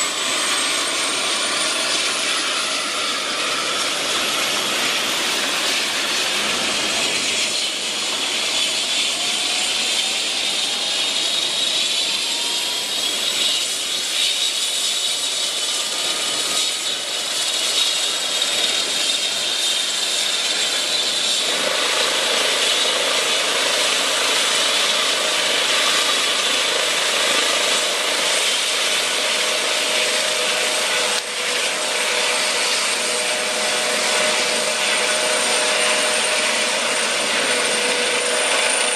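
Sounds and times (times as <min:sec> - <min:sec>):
helicopter rotors humming: 0:00.0 - 0:38.9
helicopter turbine whine: 0:00.0 - 0:38.9.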